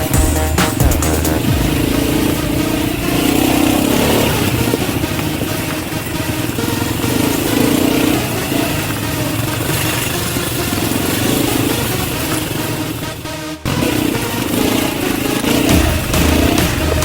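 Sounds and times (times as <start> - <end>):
quad bike engine: 0.0 - 17.0.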